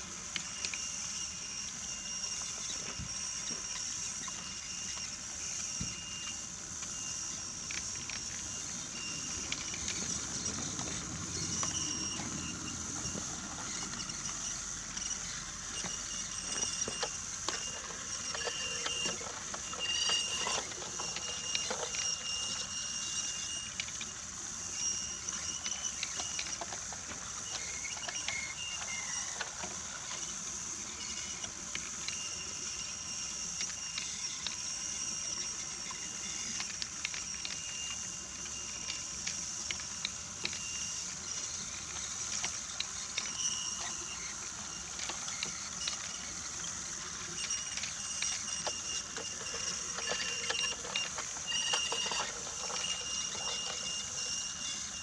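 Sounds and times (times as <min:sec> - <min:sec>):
toy train motor whirring: 0:00.0 - 0:55.0
wheels clicking on track joints: 0:00.0 - 0:55.0.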